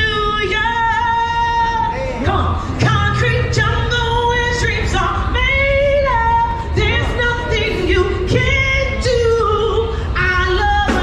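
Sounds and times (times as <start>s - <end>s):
woman singing into microphone: 0.0s - 11.0s.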